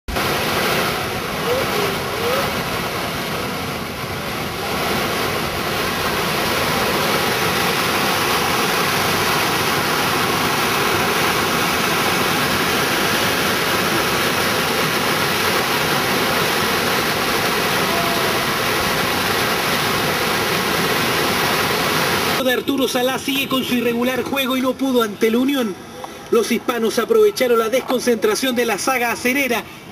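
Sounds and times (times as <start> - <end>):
waterfall rushing: 0.1 - 29.8.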